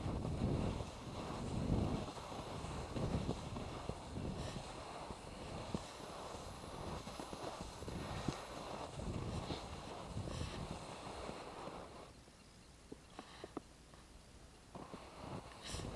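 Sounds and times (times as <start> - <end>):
wind rumbling on microphone: 0.0 - 12.2, 14.7 - 15.9.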